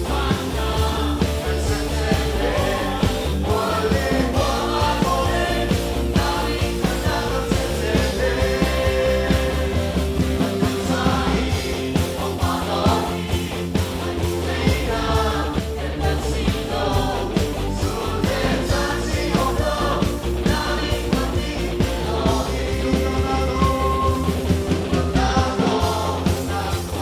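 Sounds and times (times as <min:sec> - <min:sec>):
backing singers: 0:00.0 - 0:27.0
band with steady beat: 0:00.0 - 0:27.0
man singing lead: 0:00.0 - 0:27.0.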